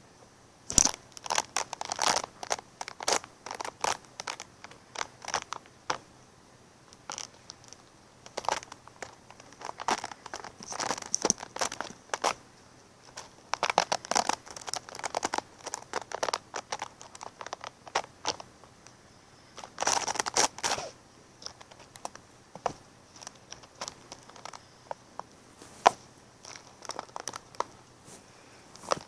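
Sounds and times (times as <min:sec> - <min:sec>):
crinkling and scratching: 0:00.7 - 0:06.0, 0:06.9 - 0:29.0.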